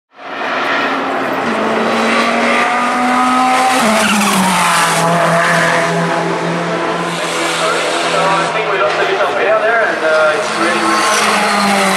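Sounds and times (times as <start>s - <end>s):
race car engine running hard: 0.2s - 11.9s.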